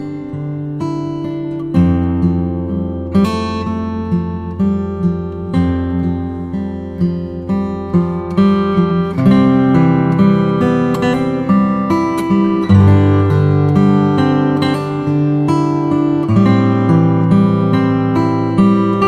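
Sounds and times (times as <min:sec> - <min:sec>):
plucked acoustic guitar: 0:00.0 - 0:19.0.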